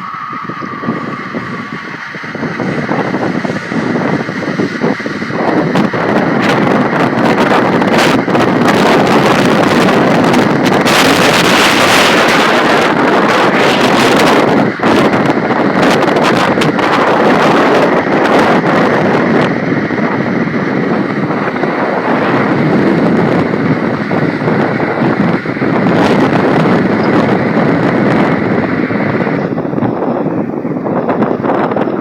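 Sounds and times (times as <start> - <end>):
strong wind blowing: 0.0 - 32.0.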